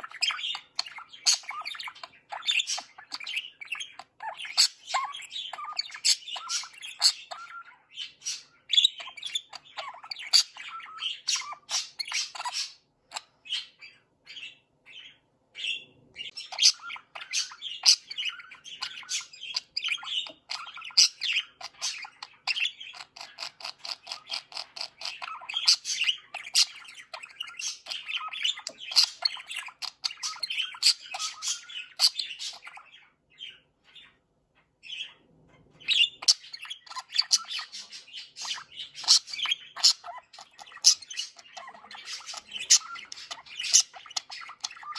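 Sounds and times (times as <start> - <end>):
budgerigar chirping and squawking: 0.0 - 44.9.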